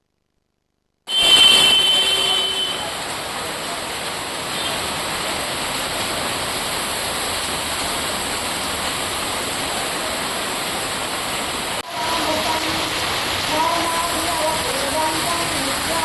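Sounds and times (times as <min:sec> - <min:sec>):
heavy rain: 0:01.1 - 0:16.0.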